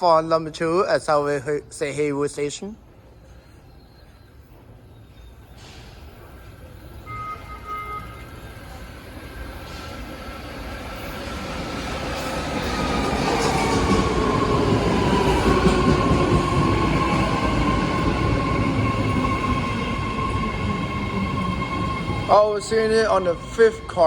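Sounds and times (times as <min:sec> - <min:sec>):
electric train rumble: 0:04.5 - 0:24.0.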